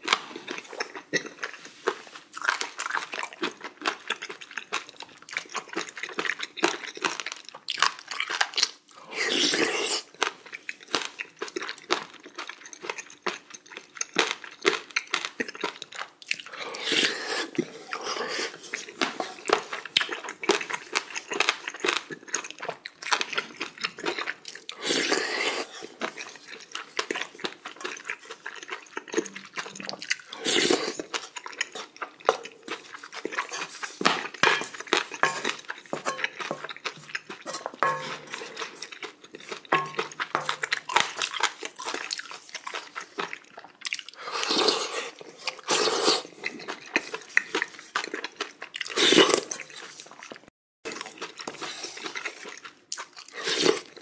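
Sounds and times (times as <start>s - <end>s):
person chewing and smacking: 0.0s - 54.0s.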